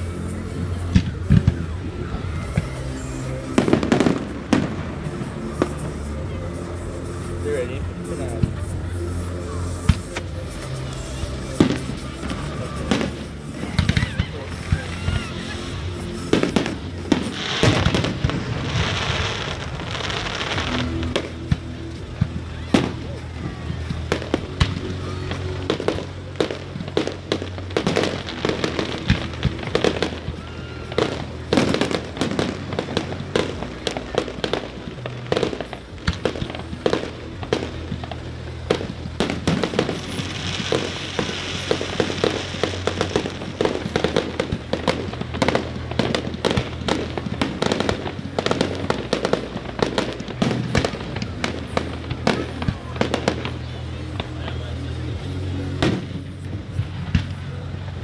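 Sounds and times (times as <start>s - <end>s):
fireworks bursts and bangs: 0.0s - 58.0s
hissing crackle: 0.0s - 58.0s
music with steady bass: 0.0s - 58.0s.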